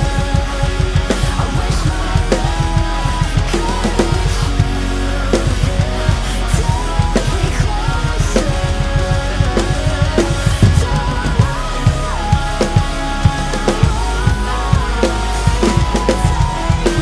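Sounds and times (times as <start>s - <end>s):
band track with held melodic lines: 0.0s - 17.0s
rapid kick drum strokes: 0.0s - 17.0s
rock drum kit playing: 0.0s - 17.0s.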